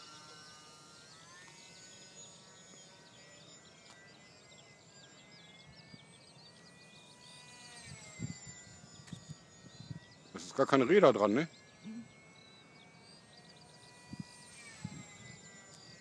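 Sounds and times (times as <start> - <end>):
model plane motor whine: 0.0 - 16.0
small birds chirping: 0.2 - 16.0.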